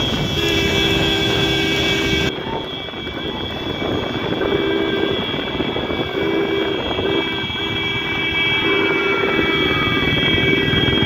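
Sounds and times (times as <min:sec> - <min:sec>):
motorcycle engines in a pack: 0:00.0 - 0:11.0.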